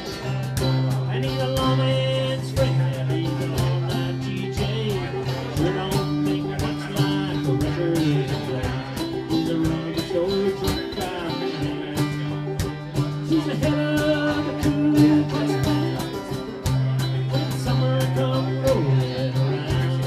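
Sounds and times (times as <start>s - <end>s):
blues band playing guitars: 0.0s - 20.0s.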